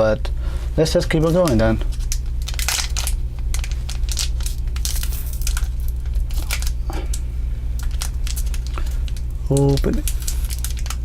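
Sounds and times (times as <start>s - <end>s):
plastic wrapper crinkling and tearing: 1.1s - 7.2s, 7.8s - 11.0s.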